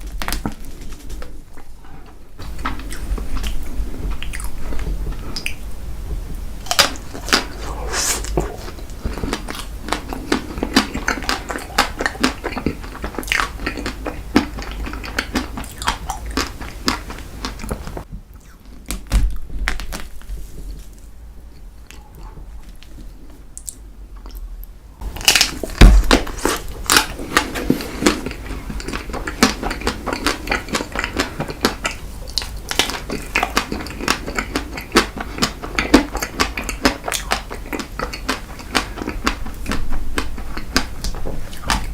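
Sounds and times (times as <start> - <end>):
person chewing: 2.4 - 5.7, 6.3 - 18.9, 23.6 - 41.9.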